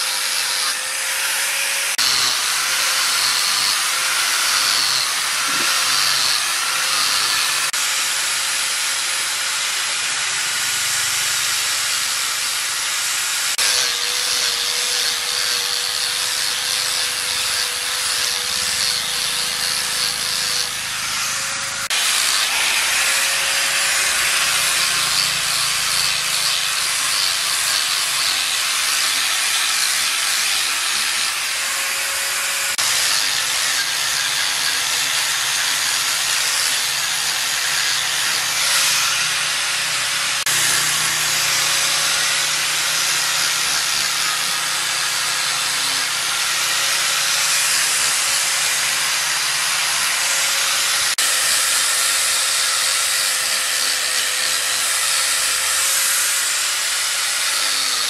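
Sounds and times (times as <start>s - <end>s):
grinder motor whine: 0.0s - 52.0s
angle grinder sanding wood: 0.0s - 58.0s.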